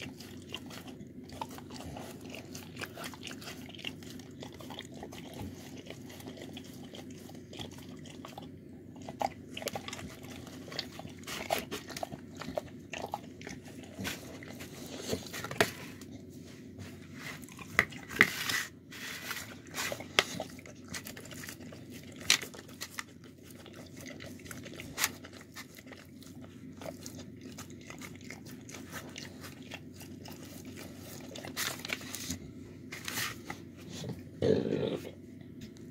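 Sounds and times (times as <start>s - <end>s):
dog crunching food: 0.0s - 16.1s, 17.3s - 35.1s.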